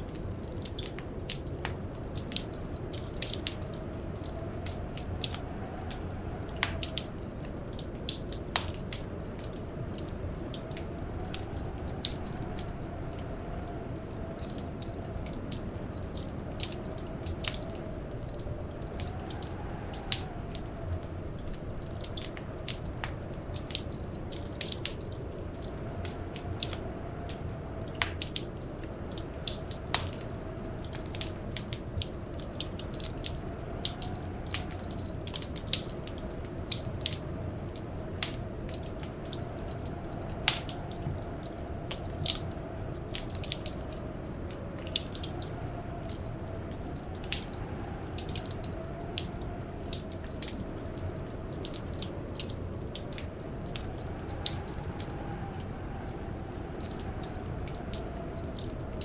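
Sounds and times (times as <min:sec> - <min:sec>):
wind howling: 0:00.0 - 0:59.0
wood fire crackling and popping: 0:00.0 - 0:59.0.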